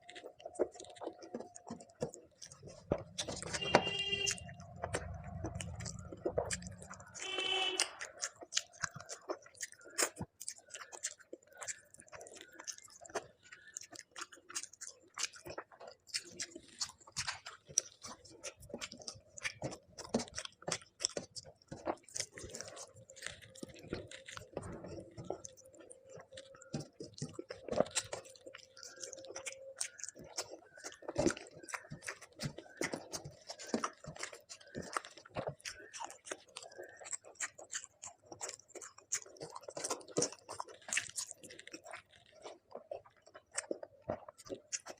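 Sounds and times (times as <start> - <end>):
person chewing and biting food: 0.0 - 44.9.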